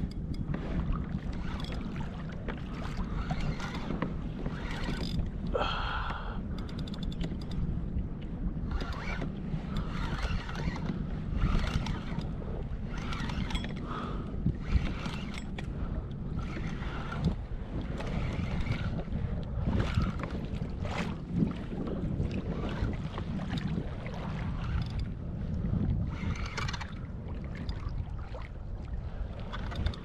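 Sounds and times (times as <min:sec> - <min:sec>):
water lapping against kayak hull: 0:00.0 - 0:30.0
wind rumble on microphone: 0:00.0 - 0:30.0.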